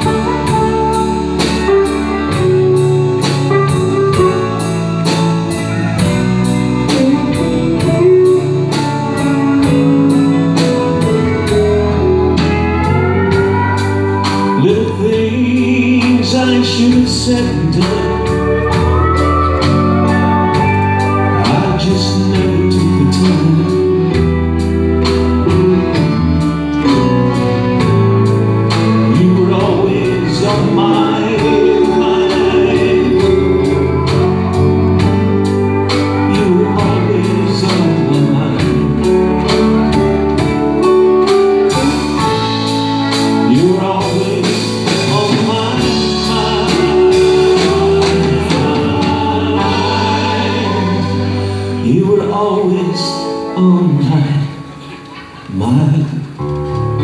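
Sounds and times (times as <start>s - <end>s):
fiddle playing: 0.0s - 15.6s, 16.4s - 53.4s
acoustic guitar: 0.0s - 57.0s.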